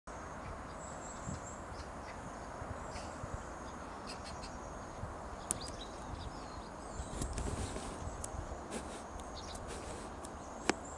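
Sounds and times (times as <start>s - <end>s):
bird chirps: 0.1s - 8.4s, 9.0s - 10.9s.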